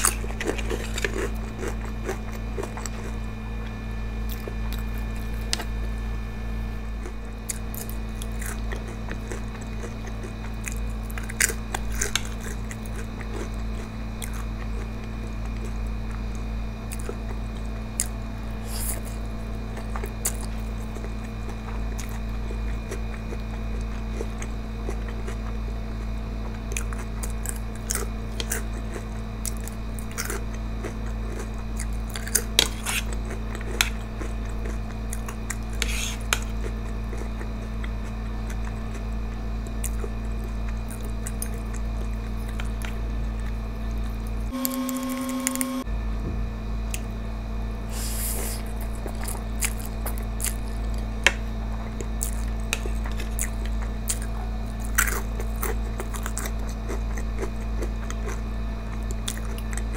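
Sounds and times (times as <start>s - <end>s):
small crunches: 0.0s - 5.8s, 6.8s - 45.8s, 48.0s - 59.9s
person chewing food: 0.0s - 6.0s, 6.6s - 45.9s, 47.9s - 59.9s
low hum: 0.0s - 59.9s.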